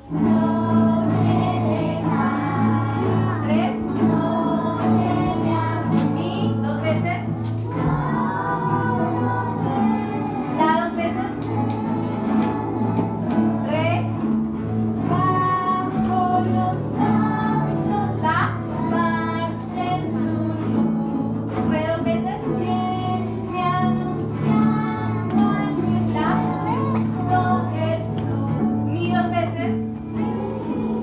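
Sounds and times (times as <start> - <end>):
children and woman singing: 0.0 - 31.0
strummed acoustic guitars: 0.0 - 31.0.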